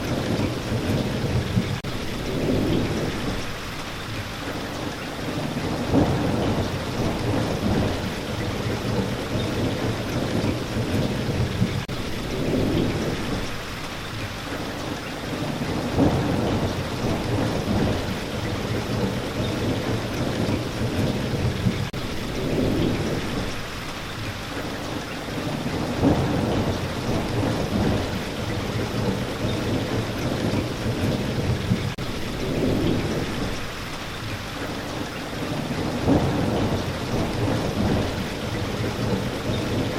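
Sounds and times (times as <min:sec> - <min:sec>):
low thunder rumbling: 0:00.0 - 0:14.2, 0:15.0 - 0:24.1, 0:25.2 - 0:39.9
steady rain: 0:00.0 - 0:39.9.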